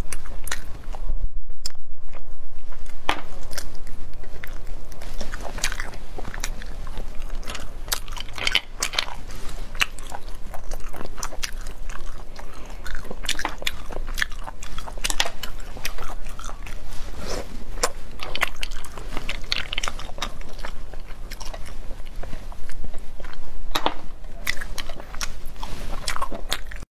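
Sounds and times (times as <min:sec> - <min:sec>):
wet chewing and mouth smacks: 0:01.6 - 0:26.8.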